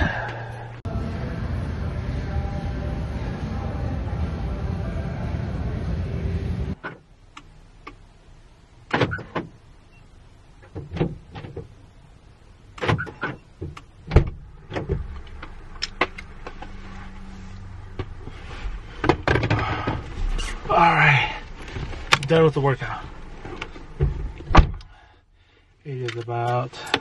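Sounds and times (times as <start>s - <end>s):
steady noise: 0.0s - 26.0s.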